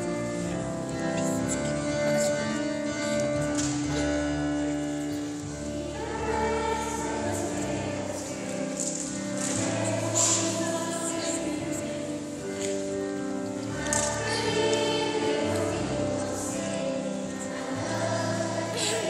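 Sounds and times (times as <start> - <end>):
choir singing held notes: 0.0 - 19.0.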